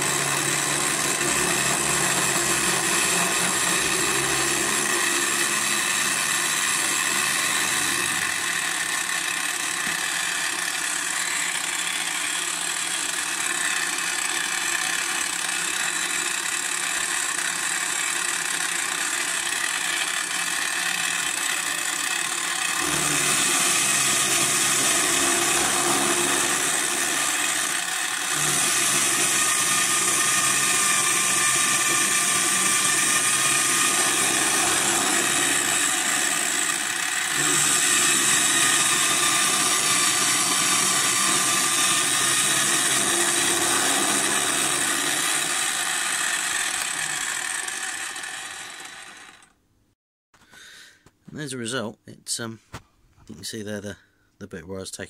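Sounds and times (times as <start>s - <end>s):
end mill cutting metal: 0.0s - 49.5s
drill motor running: 0.0s - 49.6s.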